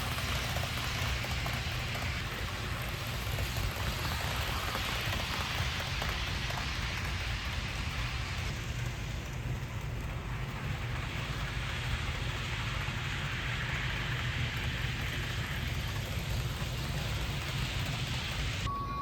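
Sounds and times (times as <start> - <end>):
metal wheels rolling on rails: 0.0 - 18.7
model train motor hum: 0.0 - 18.7.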